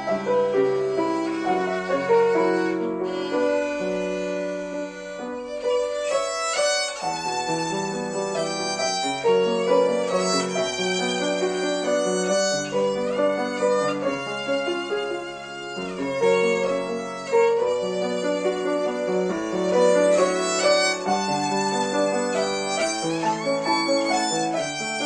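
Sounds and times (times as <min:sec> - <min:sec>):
piano accompaniment: 0:00.0 - 0:25.0
violin playing: 0:00.0 - 0:25.0.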